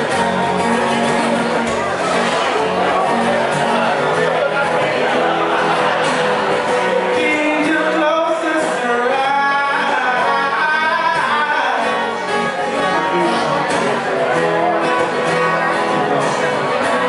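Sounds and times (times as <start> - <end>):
rock guitar accompaniment: 0.0 - 17.0
man singing: 3.1 - 17.0.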